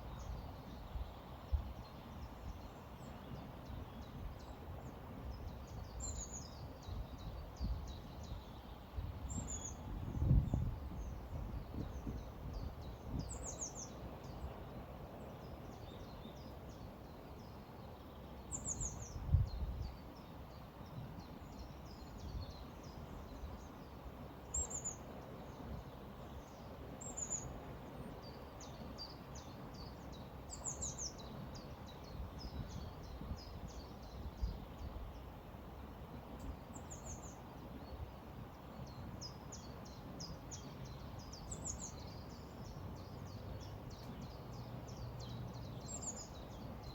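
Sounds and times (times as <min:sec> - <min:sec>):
small birds chirping: 0:00.0 - 0:35.5, 0:36.2 - 0:46.9.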